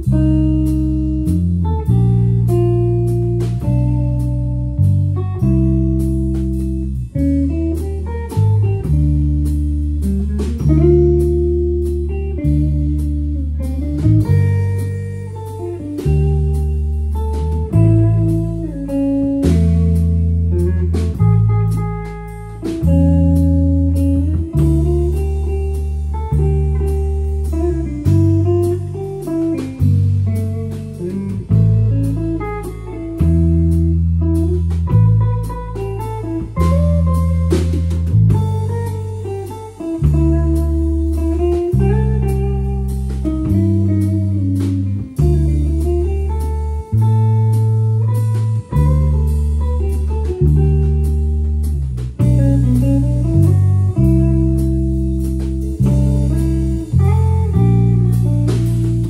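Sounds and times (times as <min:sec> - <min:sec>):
jazz guitar trio playing: 0:00.0 - 0:59.0
light drums and cymbals: 0:00.0 - 0:59.0
low bass notes: 0:00.0 - 0:59.0.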